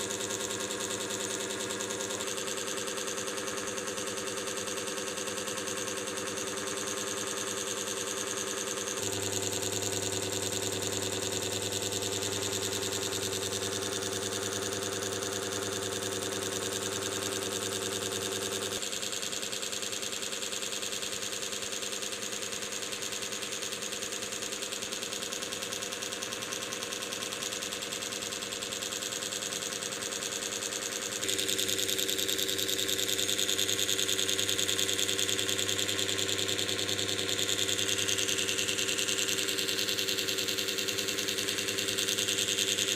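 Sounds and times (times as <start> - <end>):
mechanical hum with flutter: 0.0 - 42.9.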